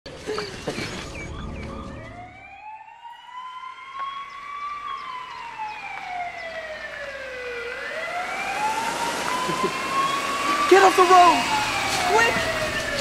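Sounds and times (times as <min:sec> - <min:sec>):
police siren wailing: 0:01.2 - 0:13.0.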